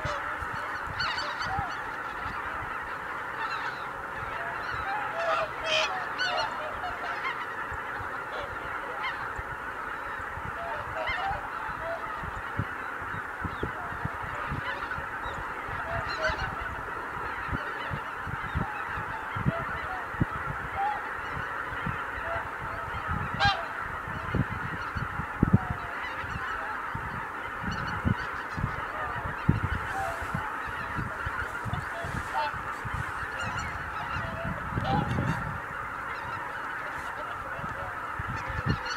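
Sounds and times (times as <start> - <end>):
geese honking in flight: 0.0 - 38.9.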